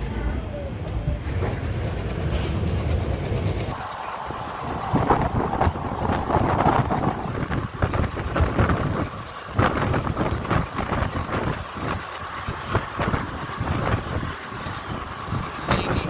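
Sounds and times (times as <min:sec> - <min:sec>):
train coaches running on track: 0:00.0 - 0:16.0
wind buffeting microphone: 0:00.9 - 0:16.0.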